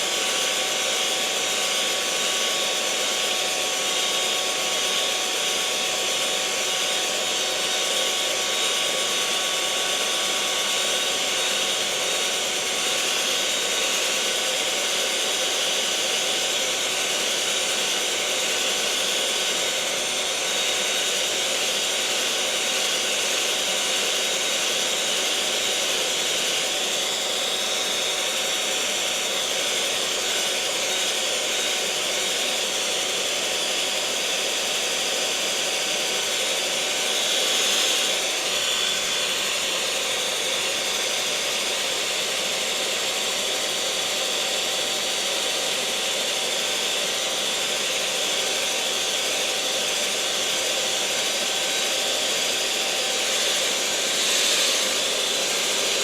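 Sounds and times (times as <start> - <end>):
electric mixer motor whirring: 0.0 - 56.0.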